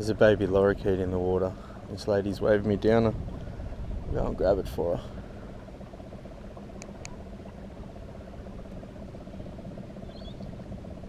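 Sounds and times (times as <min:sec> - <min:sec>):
electric trolling motor humming: 0:00.0 - 0:11.0.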